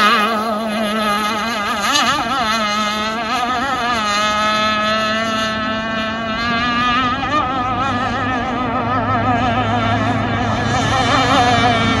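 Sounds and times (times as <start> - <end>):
model boat engine running: 0.0 - 12.0.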